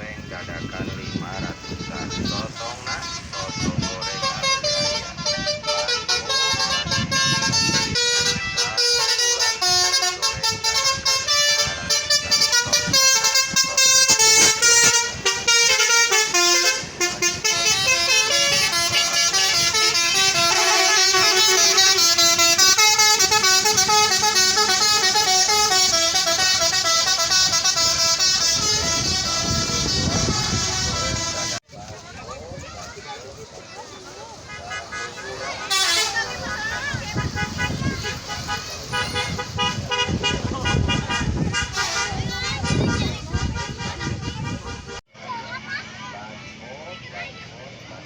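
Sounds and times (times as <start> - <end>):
bus multi-tone horn melody: 0.0 - 31.6, 34.4 - 45.1.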